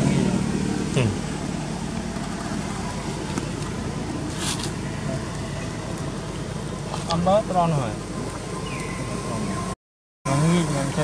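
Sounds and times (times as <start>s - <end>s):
low hum of traffic: 0.0s - 11.0s.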